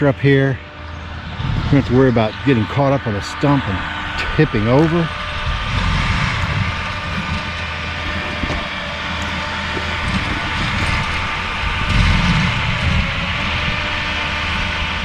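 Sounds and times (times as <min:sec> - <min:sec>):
mulcher machine drone with whine: 0:00.0 - 0:15.0.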